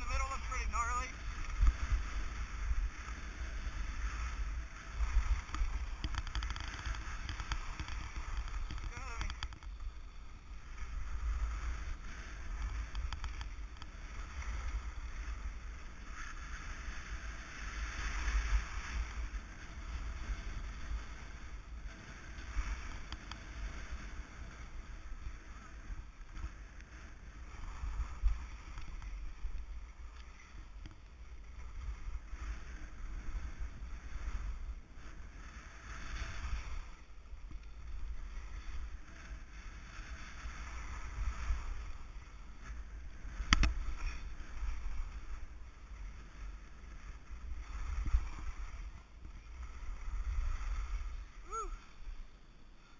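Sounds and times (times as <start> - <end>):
skis scraping over snow: 0.0 - 52.9
wind rumbling on microphone: 0.0 - 52.9.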